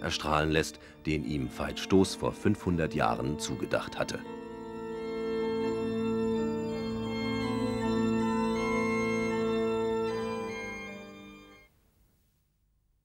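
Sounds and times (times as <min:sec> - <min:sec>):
organ sustained chords: 0:00.0 - 0:11.7.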